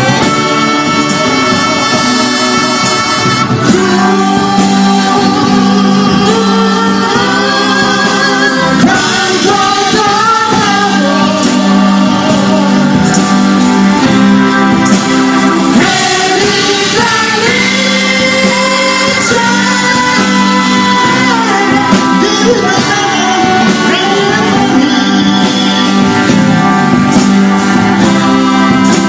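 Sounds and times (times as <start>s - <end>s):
live band playing with singing: 0.0s - 29.0s.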